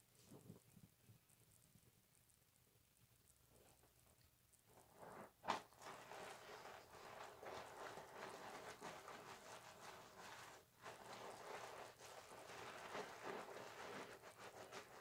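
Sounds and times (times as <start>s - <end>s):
soap rubbed with wet loofah: 0.0s - 15.0s.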